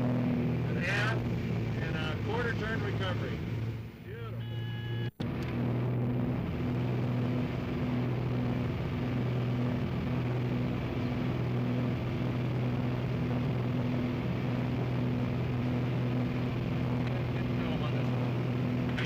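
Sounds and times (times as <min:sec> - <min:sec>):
aircraft engine drone: 0:00.0 - 0:19.0.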